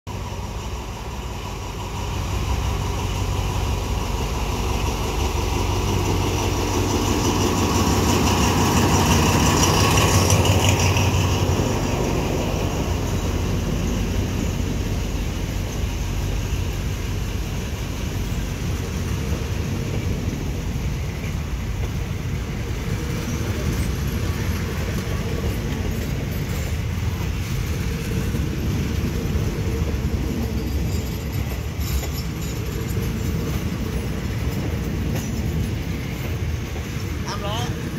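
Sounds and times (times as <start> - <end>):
diesel locomotive engine: 0.1 - 37.9
train coaches rumbling on track: 0.1 - 37.9.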